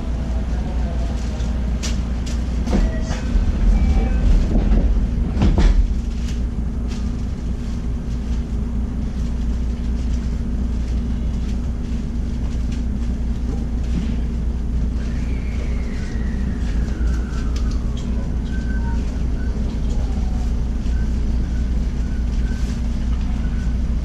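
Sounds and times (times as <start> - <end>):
train rumble and hum: 0.0 - 24.0.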